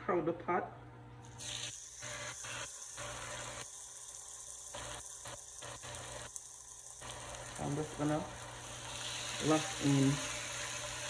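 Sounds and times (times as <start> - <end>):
meat sizzling in hot oil: 1.4 - 11.0.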